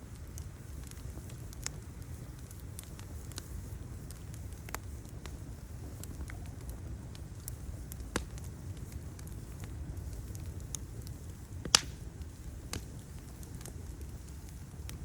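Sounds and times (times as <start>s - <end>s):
fire crackling: 0.0s - 15.0s
low fire rumble: 0.0s - 15.0s
sharp fire snap: 0.0s - 15.0s.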